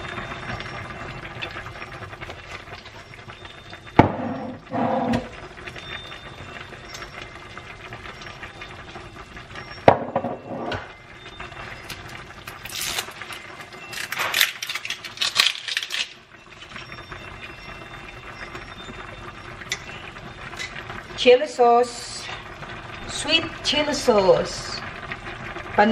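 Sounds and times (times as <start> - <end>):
pork simmering bubbling hiss: 0.0 - 25.9.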